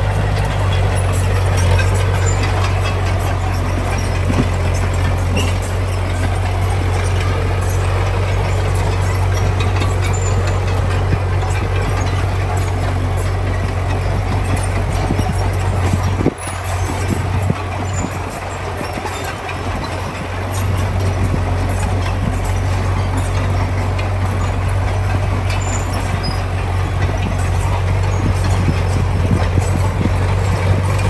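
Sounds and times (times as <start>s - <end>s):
heavy diesel engine droning: 0.0s - 31.0s
small clatters: 0.0s - 31.0s.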